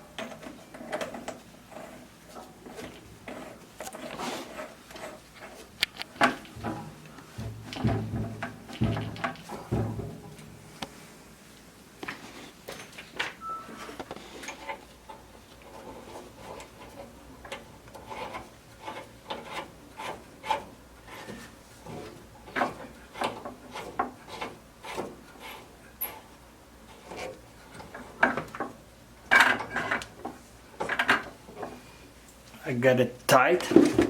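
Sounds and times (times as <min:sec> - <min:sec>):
hose coupling scraping and clicking: 0:00.2 - 0:10.9, 0:13.9 - 0:26.3, 0:26.9 - 0:31.8.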